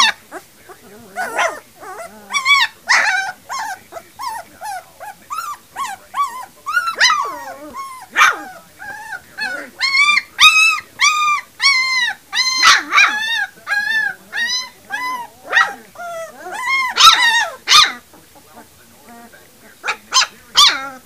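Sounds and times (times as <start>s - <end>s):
puppies yipping and whimpering: 0.0s - 21.0s.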